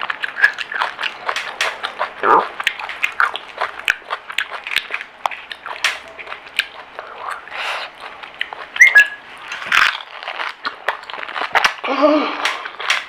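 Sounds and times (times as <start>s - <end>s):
crunching and wet chewing: 0.0s - 13.0s.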